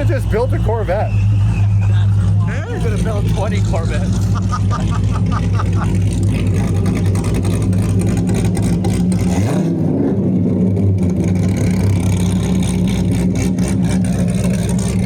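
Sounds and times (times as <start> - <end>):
loud sports car engine revving: 0.0 - 15.0.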